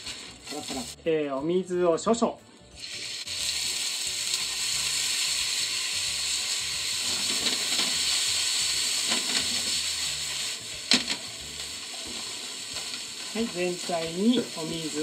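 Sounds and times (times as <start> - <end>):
noodles sizzling in a frying pan: 0.0 - 1.1, 2.8 - 15.0
water hissing as it boils off: 2.8 - 15.0.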